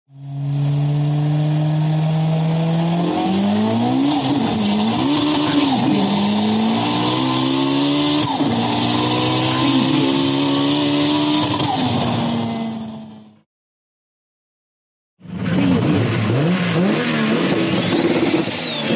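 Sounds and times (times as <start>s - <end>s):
racing car engines revving: 0.2s - 13.4s, 15.2s - 18.9s.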